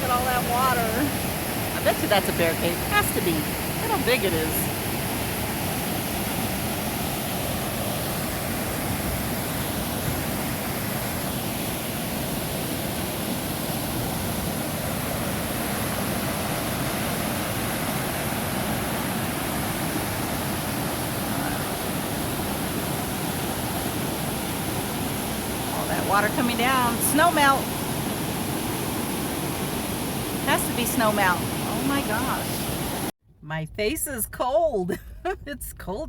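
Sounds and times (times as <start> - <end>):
water rushing over rocks: 0.0 - 33.1.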